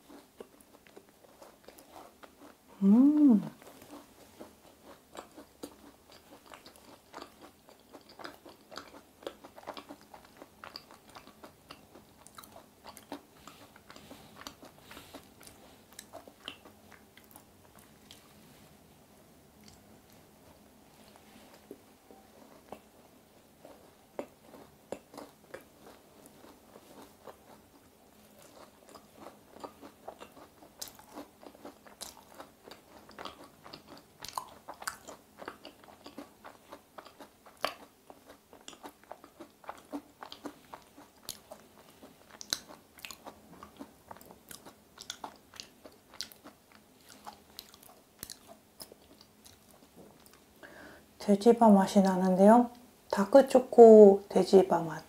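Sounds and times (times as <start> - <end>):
person chewing with mouth clicks: 0.0 - 18.3, 19.6 - 50.9.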